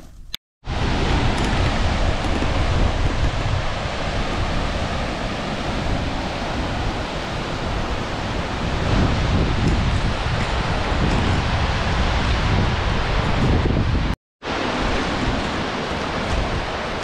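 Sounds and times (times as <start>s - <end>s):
wind buffeting microphone: 0.7s - 17.0s.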